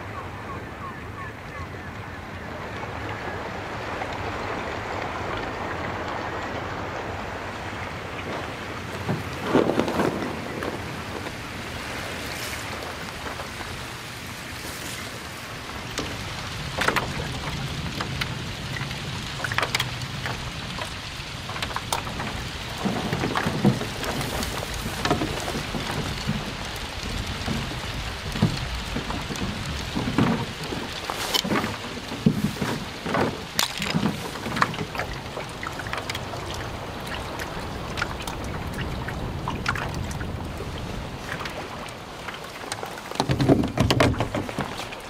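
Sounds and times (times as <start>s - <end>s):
water washing: 1.4s - 45.0s.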